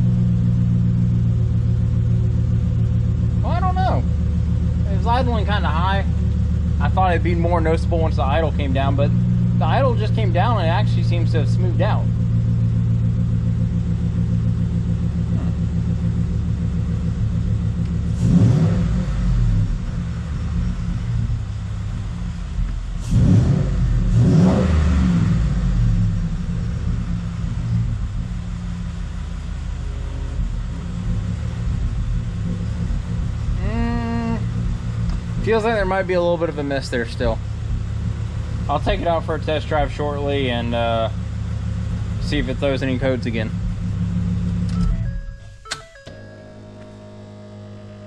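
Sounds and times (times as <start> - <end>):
truck engine idling and revving: 0.0 - 48.0.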